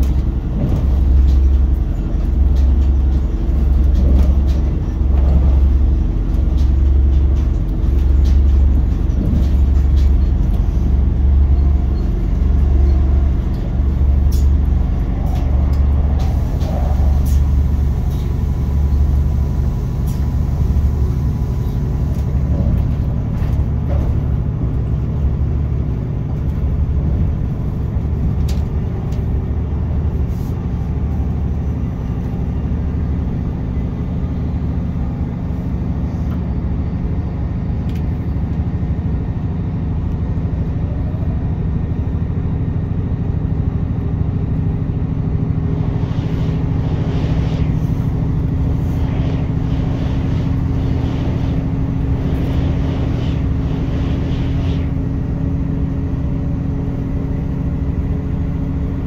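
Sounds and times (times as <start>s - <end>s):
diesel engine drone: 0.0s - 59.0s
passing train rushing: 0.0s - 59.0s
wheel and rail noise: 0.0s - 59.0s.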